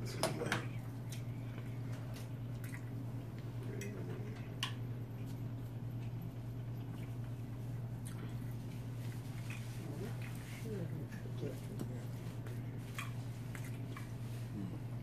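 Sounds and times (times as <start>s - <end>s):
steady low hum: 0.0s - 15.0s
chewing: 1.0s - 15.0s.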